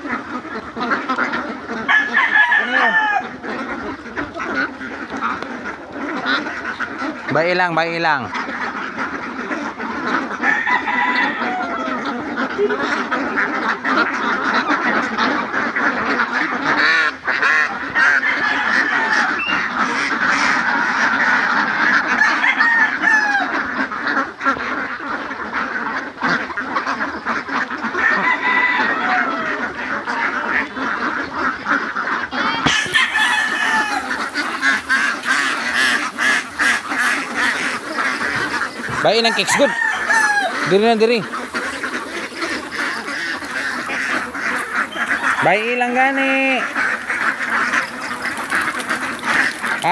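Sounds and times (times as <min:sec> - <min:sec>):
flock of ducks quacking: 0:00.0 - 0:49.9.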